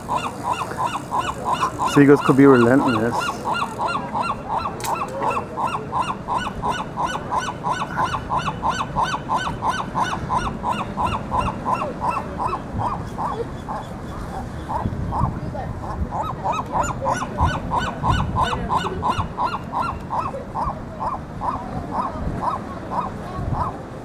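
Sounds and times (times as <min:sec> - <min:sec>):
gulls squawking: 0:00.0 - 0:23.8.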